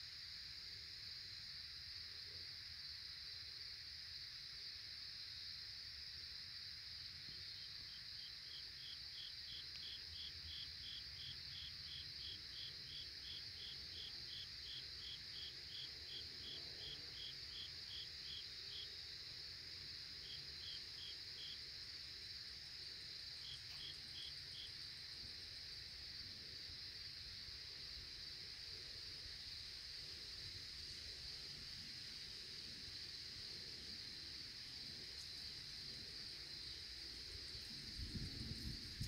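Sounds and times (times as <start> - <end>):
cricket chirping: 0.0 - 39.0
steady high-pitched hiss: 0.0 - 39.0.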